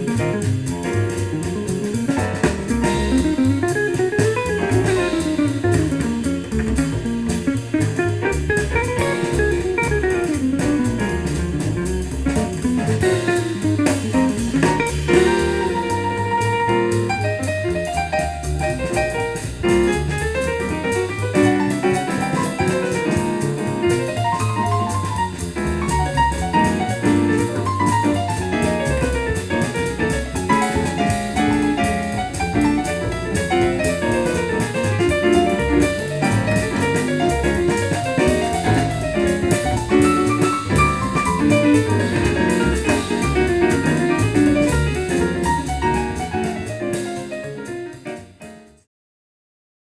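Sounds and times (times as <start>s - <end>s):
drum kit: 0.0s - 48.8s
jazz piano: 0.0s - 48.9s.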